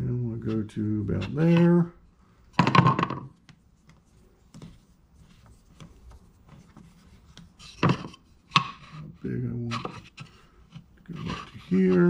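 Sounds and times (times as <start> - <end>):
hands rubbing cord into grid: 0.4 - 1.9, 3.4 - 12.0.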